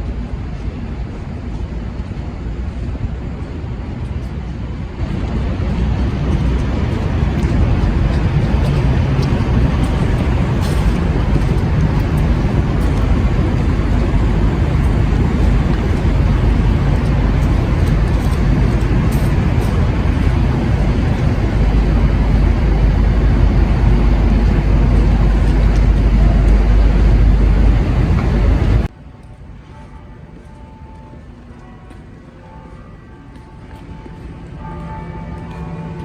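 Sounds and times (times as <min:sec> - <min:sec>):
vehicles passing: 0:00.0 - 0:28.9.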